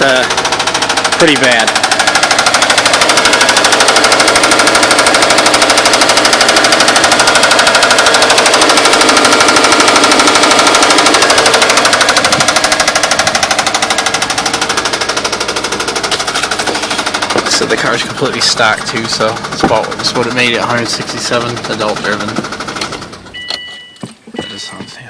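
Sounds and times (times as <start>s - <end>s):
engine with loud rod knock: 0.0s - 23.4s.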